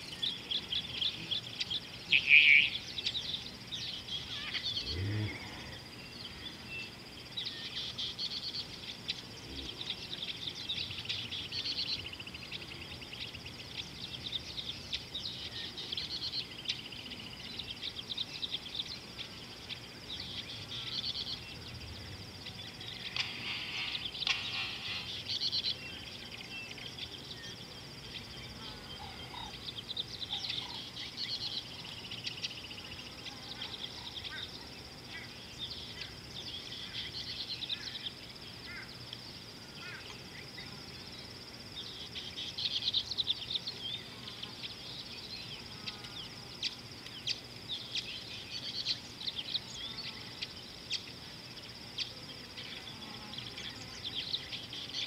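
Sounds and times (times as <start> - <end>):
birds chirping and calling: 0.0 - 55.0.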